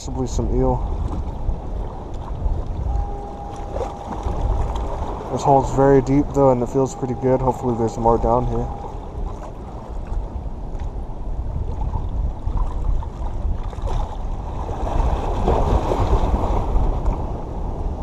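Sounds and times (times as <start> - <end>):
wind rumble on microphone: 0.0 - 18.0
waves washing against rocks: 0.1 - 8.9, 11.9 - 18.0.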